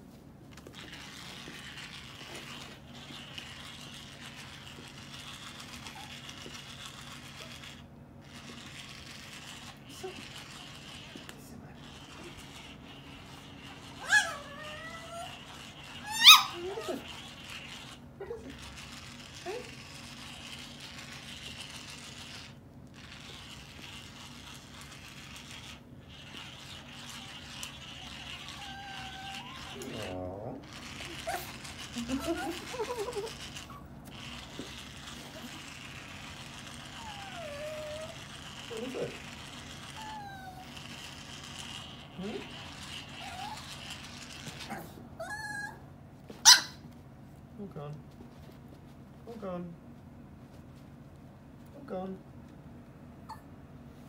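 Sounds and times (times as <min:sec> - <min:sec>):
vibrating toy buzzing and rattling: 0:00.5 - 0:45.0.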